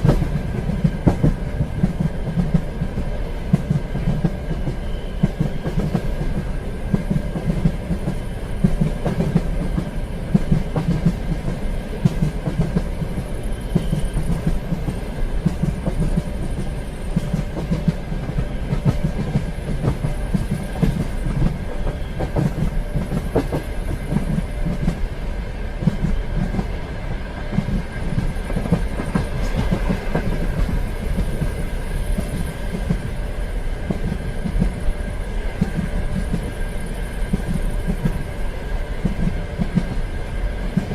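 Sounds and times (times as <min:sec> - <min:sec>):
train rumbling on track: 0:00.0 - 0:40.9.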